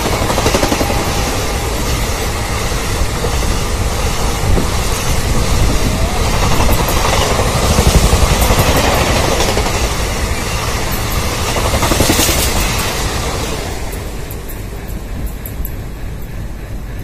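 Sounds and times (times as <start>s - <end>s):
rush of air from passing train: 0.0s - 17.0s
train wheels clattering over track: 0.0s - 17.0s.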